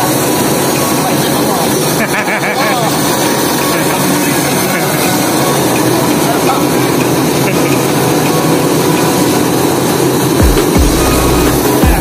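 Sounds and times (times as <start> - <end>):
extruder machine running: 0.0 - 12.0.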